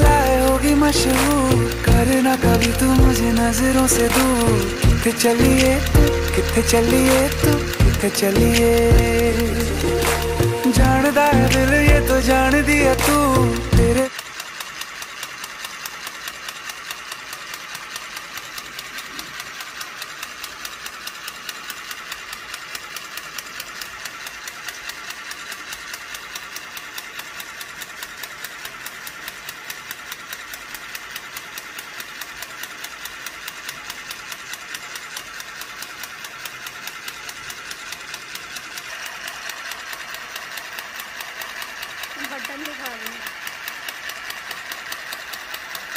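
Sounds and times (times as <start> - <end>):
needle mechanism clicking: 0.0 - 45.9
sewing machine motor whir: 0.0 - 45.9.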